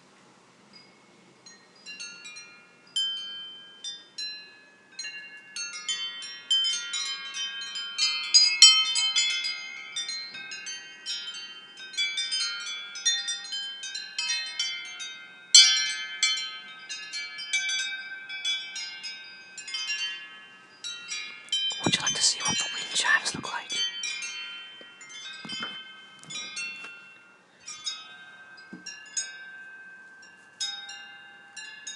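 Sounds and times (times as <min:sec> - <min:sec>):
metal wind chimes ringing: 0:00.7 - 0:31.9.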